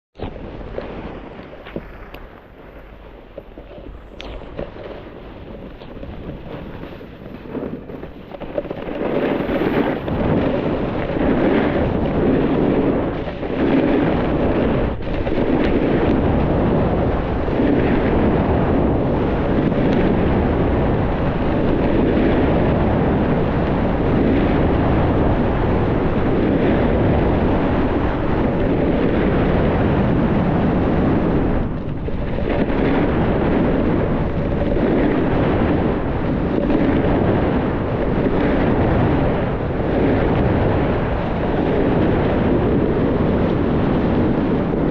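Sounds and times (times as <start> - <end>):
skis sliding over snow: 0.2 - 44.9
wind buffeting microphone: 0.2 - 44.9.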